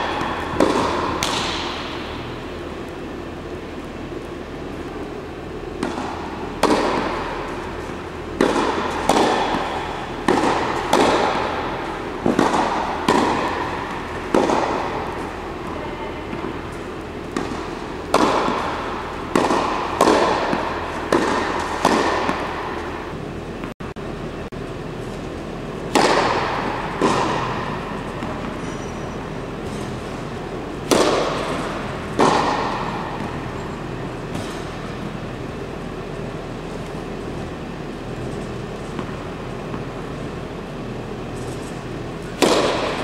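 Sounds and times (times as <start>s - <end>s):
tennis racket hitting ball: 0.0s - 3.1s, 5.7s - 23.2s, 25.8s - 28.9s, 29.6s - 37.6s, 38.2s - 40.4s, 41.4s - 43.0s
steady background hiss: 0.0s - 43.0s.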